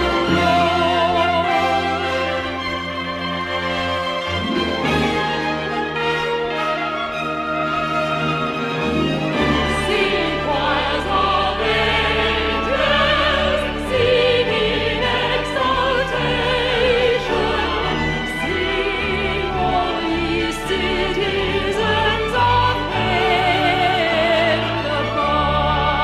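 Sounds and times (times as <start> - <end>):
operatic singing with vibrato: 0.0 - 26.0
sustained strings: 0.0 - 26.0.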